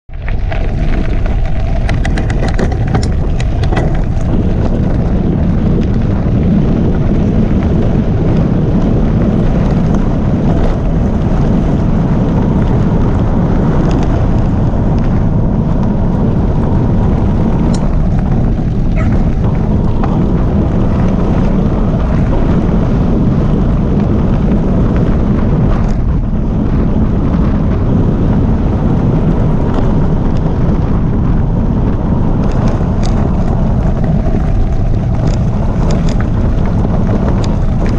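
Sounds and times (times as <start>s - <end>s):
wind buffeting microphone: 0.0s - 37.9s
bike tyres rolling on gravel: 0.1s - 37.9s.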